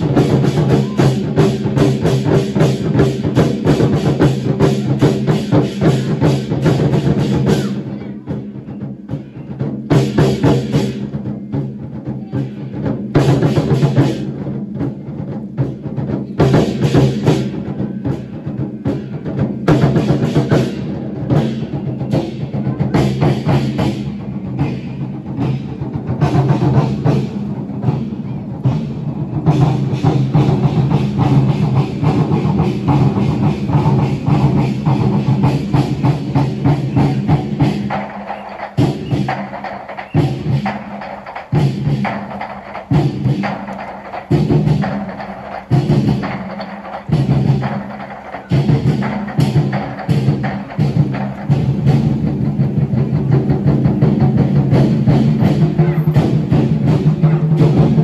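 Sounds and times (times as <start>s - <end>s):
barrel drums beating: 0.0s - 58.0s.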